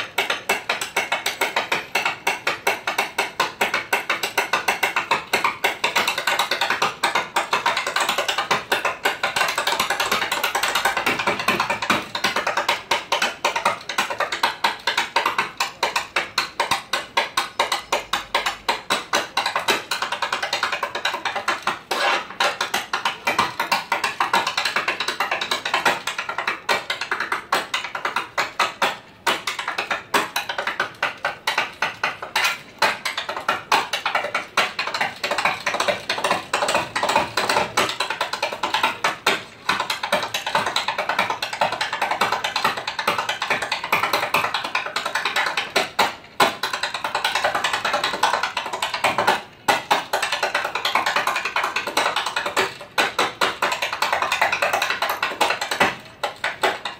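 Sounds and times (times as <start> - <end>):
tap shoes striking the floor: 0.0 - 56.9.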